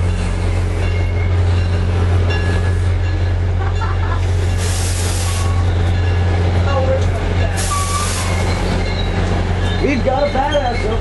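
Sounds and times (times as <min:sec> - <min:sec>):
diesel train droning: 0:00.0 - 0:11.0.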